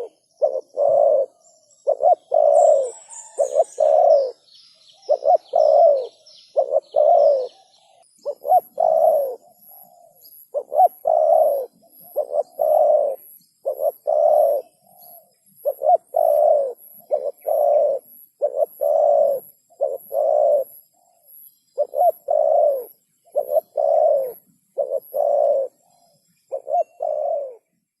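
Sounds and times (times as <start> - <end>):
dove cooing: 0.0 - 27.8
small bird chirping: 0.0 - 28.0.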